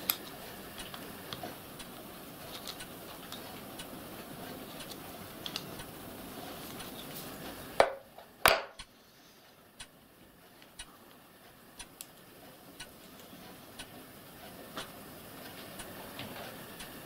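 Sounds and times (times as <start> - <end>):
steady gas hiss: 0.0 - 17.0.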